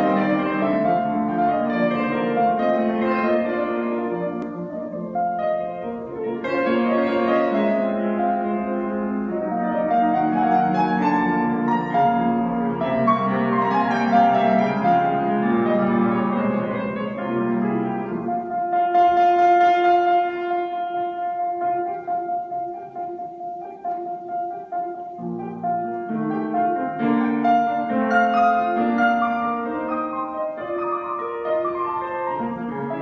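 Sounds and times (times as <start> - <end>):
grand piano playing: 0.0 - 33.0.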